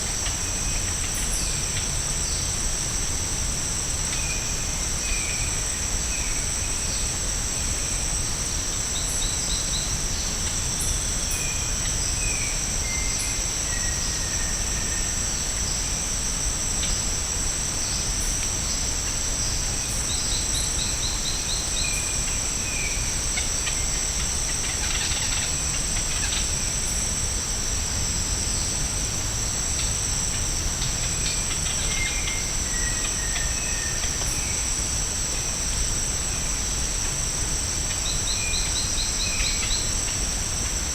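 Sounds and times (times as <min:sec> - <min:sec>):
insects droning shrilly: 0:00.0 - 0:40.9.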